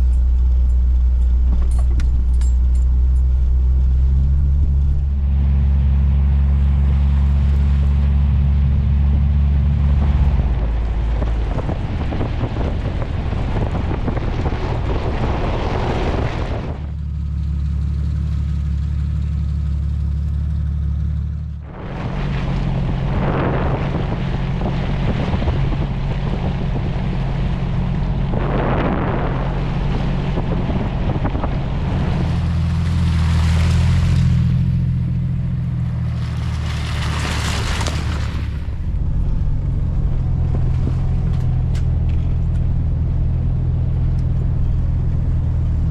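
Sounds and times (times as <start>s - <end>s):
tyre and wind noise: 0.0s - 17.0s, 21.6s - 45.9s
vehicle engine drone: 0.0s - 45.9s.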